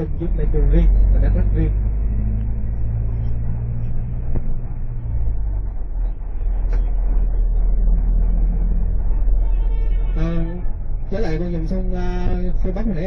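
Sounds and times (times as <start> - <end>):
road rumble: 0.0 - 13.0
vehicle engine drone: 0.0 - 13.0.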